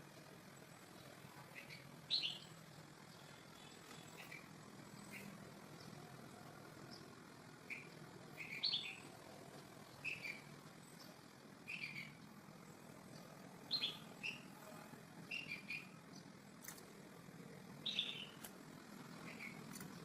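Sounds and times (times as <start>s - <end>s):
bird chirping: 0.6s - 9.2s, 9.8s - 14.6s, 15.2s - 16.7s, 17.8s - 18.5s, 19.2s - 20.0s.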